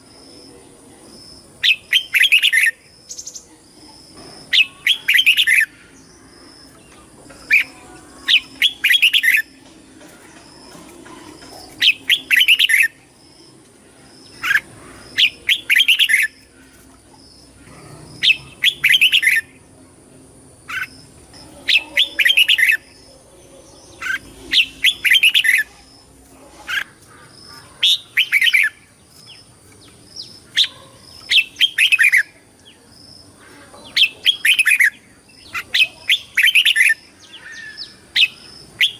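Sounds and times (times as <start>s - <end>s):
bird singing warbled phrases: 0.1s - 19.9s, 20.6s - 38.9s.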